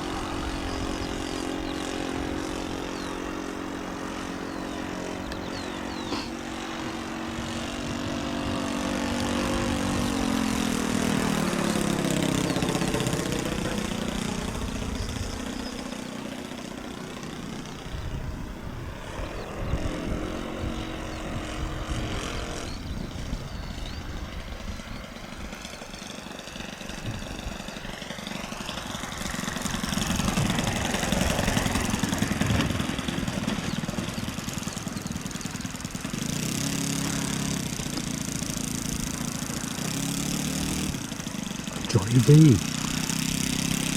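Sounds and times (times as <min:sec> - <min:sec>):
model aircraft engine buzzing: 0:00.0 - 0:43.9.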